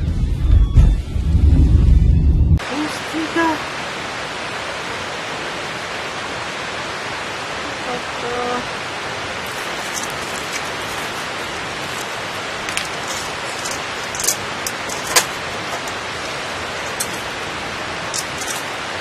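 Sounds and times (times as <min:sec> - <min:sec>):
steady rain hiss: 0:02.6 - 0:19.0.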